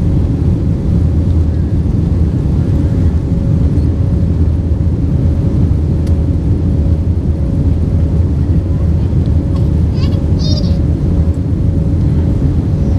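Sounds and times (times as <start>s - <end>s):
jet engine cabin roar: 0.0s - 12.9s.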